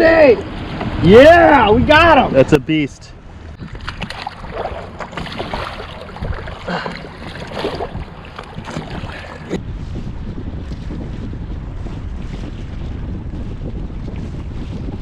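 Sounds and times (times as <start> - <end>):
low wind rumble: 0.0 - 15.0
wind buffeting microphone: 0.0 - 15.0.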